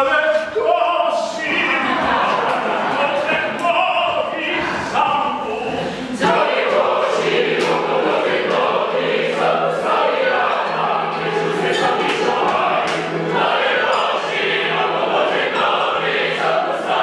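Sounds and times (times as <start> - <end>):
dancers' sharp beats: 0.0 - 17.0
opera chorus singing dance song: 0.0 - 17.0.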